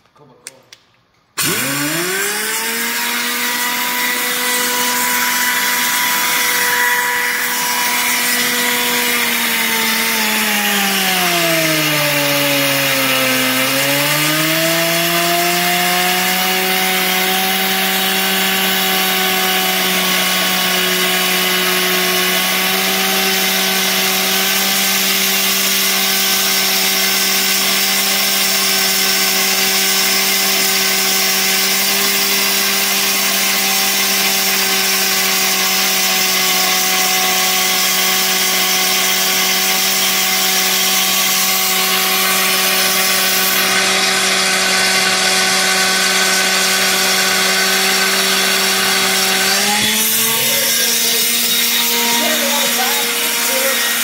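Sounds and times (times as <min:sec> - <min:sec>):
belt sander whining: 0:01.4 - 0:54.0.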